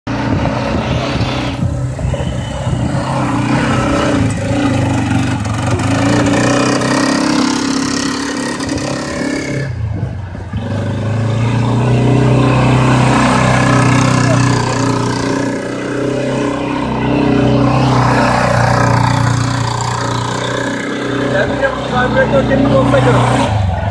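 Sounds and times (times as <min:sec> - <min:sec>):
quad bike engine running: 0:00.1 - 0:23.6.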